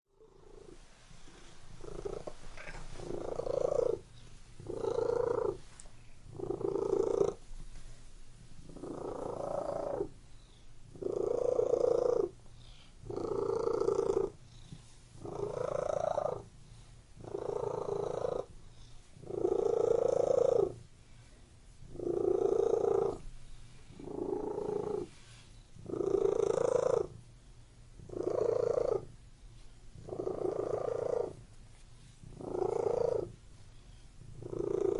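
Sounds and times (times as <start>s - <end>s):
cat purring: 0.1s - 27.3s, 27.9s - 29.2s, 29.9s - 34.9s.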